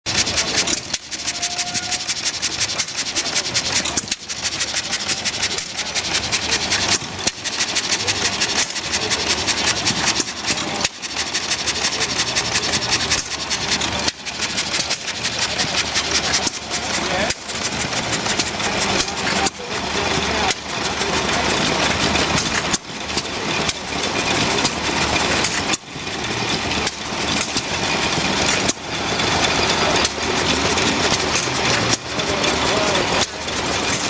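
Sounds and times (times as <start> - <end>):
hit-and-miss engine clattering: 0.0 - 34.0.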